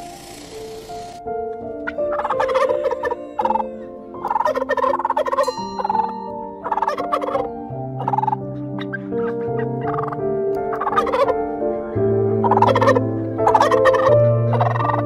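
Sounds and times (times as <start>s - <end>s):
soft background music: 0.0s - 15.0s
turkey gobbling: 1.9s - 11.4s, 12.4s - 15.0s.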